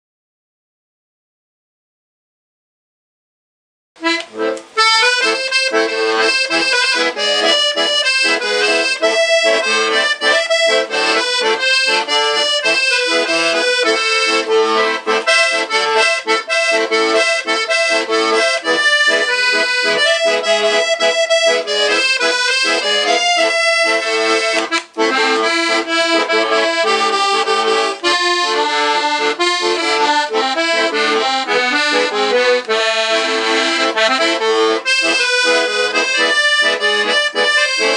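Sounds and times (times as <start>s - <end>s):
accordion folk tune: 4.0s - 37.9s.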